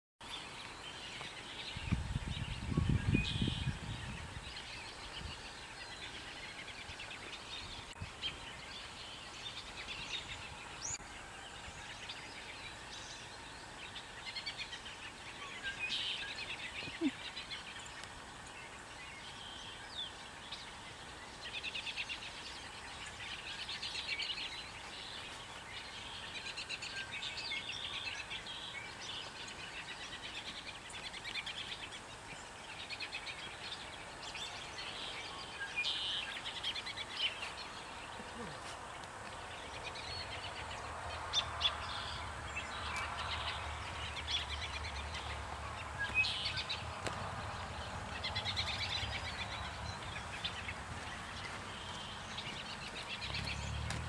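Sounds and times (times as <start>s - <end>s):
small birds chirping: 0.2s - 54.0s.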